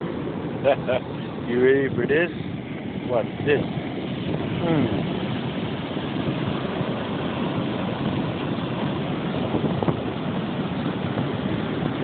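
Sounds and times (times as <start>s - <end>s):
floodwater rushing: 0.0s - 12.0s
wind on microphone: 0.0s - 12.0s.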